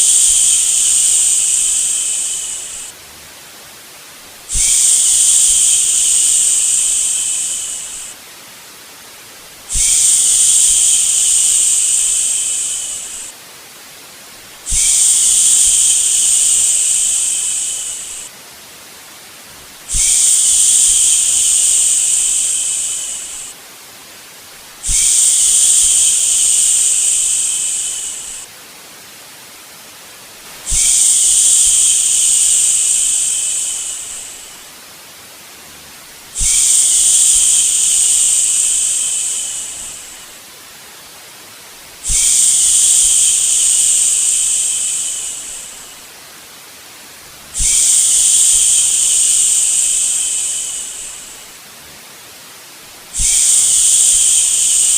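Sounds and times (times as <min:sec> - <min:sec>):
faint steady hiss: 0:00.0 - 0:54.9.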